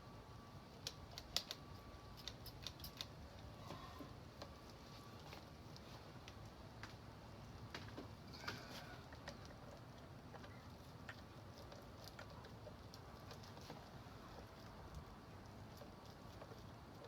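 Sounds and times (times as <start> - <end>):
faint small clicks and rustles: 0.6 - 17.0.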